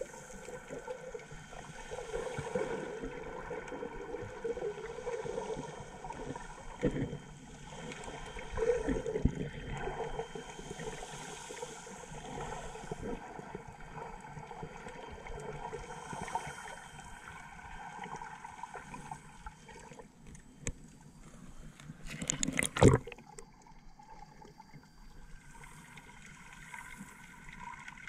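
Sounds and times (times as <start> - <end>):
muffled underwater sloshing: 0.0 - 28.0.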